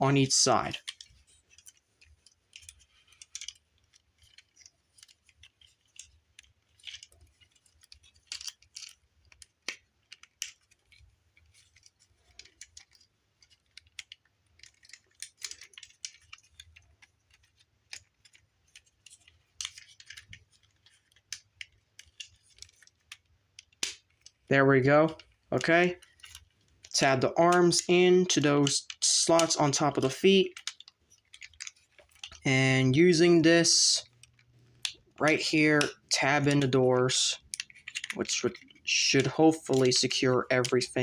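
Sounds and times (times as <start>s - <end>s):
plastic toy parts clicking: 0.0s - 41.0s.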